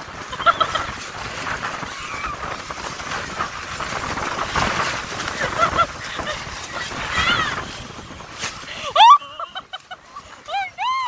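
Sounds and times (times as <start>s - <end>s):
tent tarp flapping: 0.0s - 11.0s
wind buffeting microphone: 0.0s - 11.0s.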